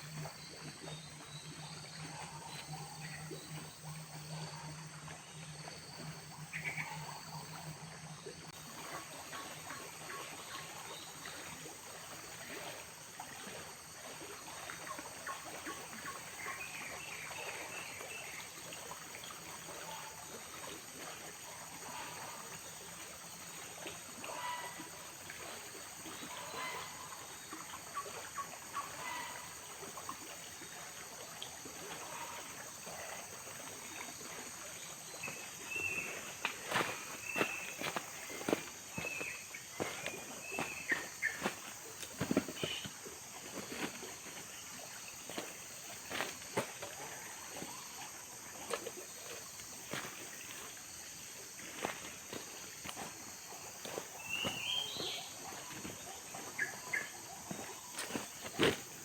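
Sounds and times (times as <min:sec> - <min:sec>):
frogs chirping: 0:00.0 - 0:59.0
high insect drone: 0:00.0 - 0:59.0
trickling water: 0:00.0 - 0:59.0.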